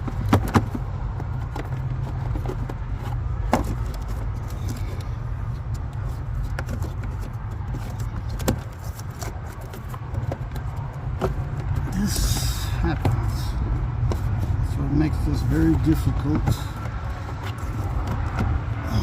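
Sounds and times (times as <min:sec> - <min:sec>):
clicks and knocks of plastic panels: 0:00.0 - 0:13.3, 0:15.7 - 0:18.7
low rumble in truck cab: 0:00.0 - 0:19.0.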